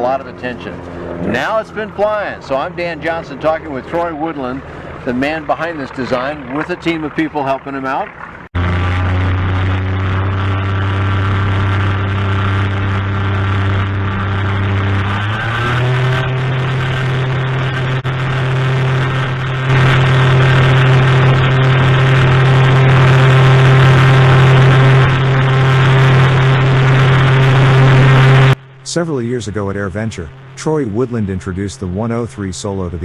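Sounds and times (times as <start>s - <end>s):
ultralight aircraft engine and propeller: 0.0s - 28.6s.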